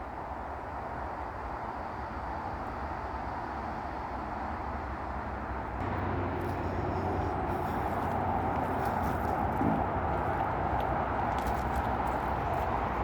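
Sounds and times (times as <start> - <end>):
distant motorway traffic roar: 0.0 - 13.0.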